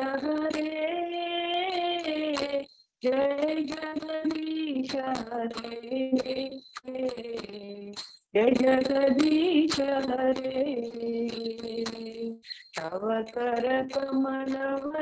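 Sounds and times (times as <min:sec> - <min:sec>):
woman singing devotional song: 0:00.0 - 0:15.0.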